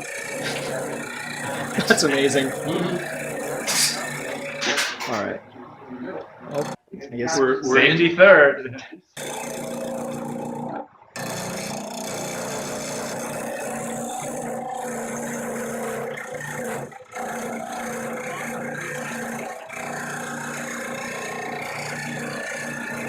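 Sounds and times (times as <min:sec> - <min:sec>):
steel tube scraping spinning wood: 0:00.0 - 0:05.4, 0:09.2 - 0:23.0
wood lathe motor hum: 0:00.0 - 0:06.8, 0:09.2 - 0:23.0.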